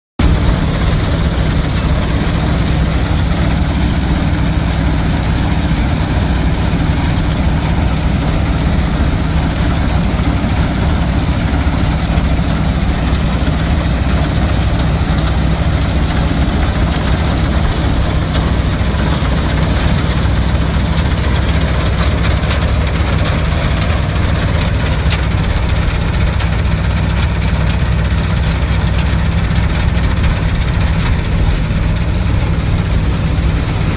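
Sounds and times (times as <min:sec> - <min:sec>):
combine harvester engine drone: 0:00.2 - 0:33.9.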